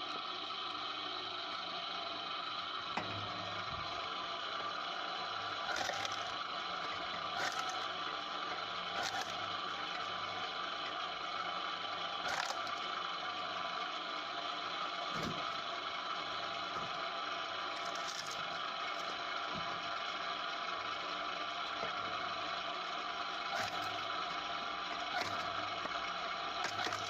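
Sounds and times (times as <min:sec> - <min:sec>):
firewood processor humming: 0:00.0 - 0:27.0.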